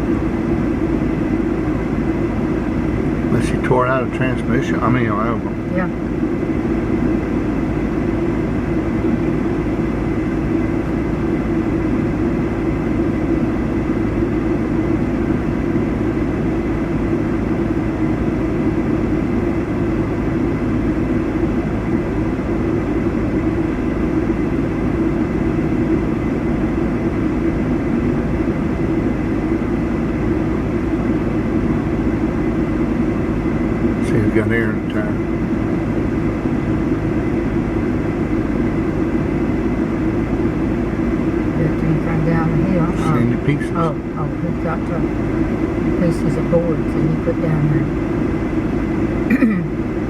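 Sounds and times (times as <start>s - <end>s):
vehicle engine idling: 0.0s - 50.0s.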